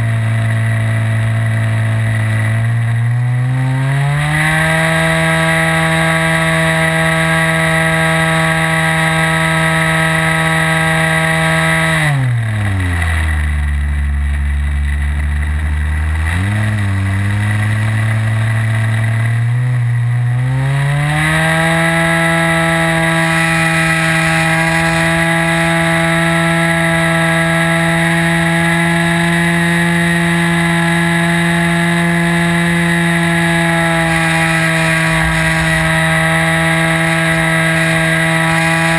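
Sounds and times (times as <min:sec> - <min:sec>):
model aircraft engine and propeller: 0:00.0 - 0:38.9.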